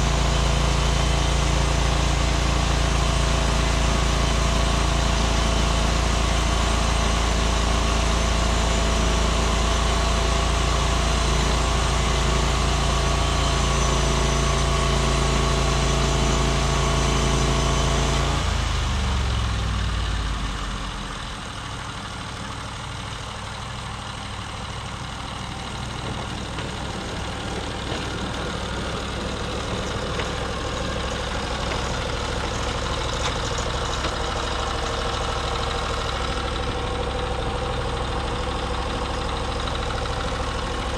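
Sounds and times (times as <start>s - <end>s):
sawmill engine throttling down: 0.0s - 40.9s.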